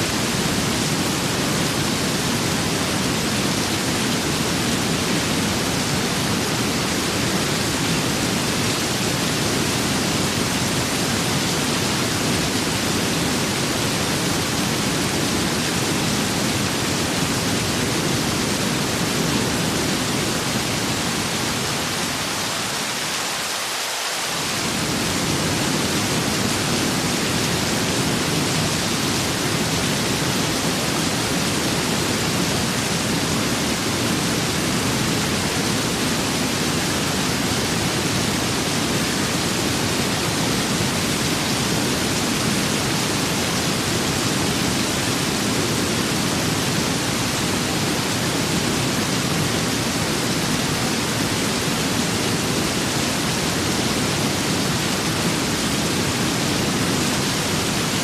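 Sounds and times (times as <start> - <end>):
steady rain and wind: 0.0 - 58.0.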